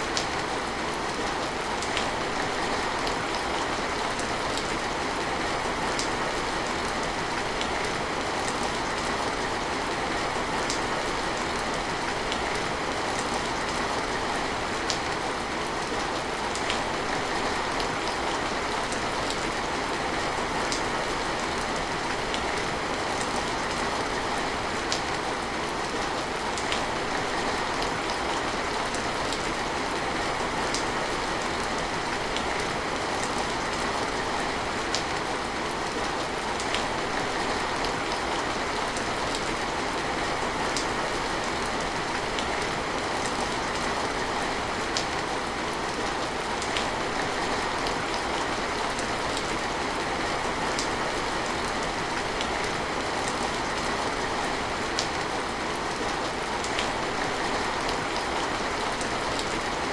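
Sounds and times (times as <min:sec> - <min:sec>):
heavy rain: 0:00.0 - 0:59.9
sharp ticks of raindrops: 0:00.0 - 0:59.9.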